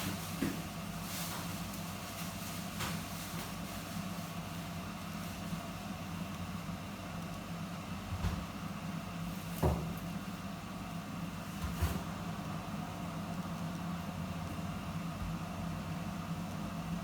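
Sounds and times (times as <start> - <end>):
stove humming: 0.0 - 17.0.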